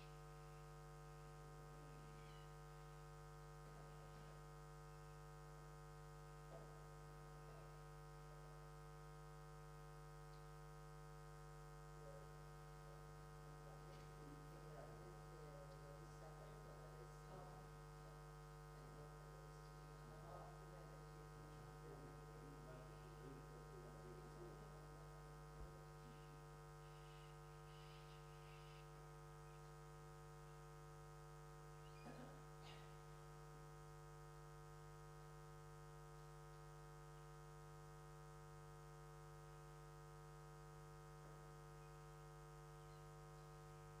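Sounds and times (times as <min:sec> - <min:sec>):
faint mains hum: 0:00.0 - 0:44.0.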